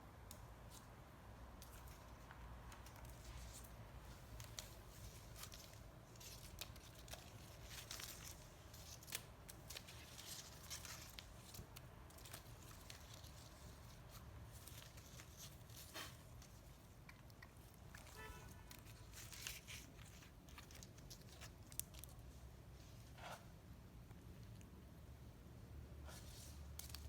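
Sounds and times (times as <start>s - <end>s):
low room hum: 0.0s - 27.0s
tearing and crinkling: 1.6s - 22.4s, 26.1s - 27.0s.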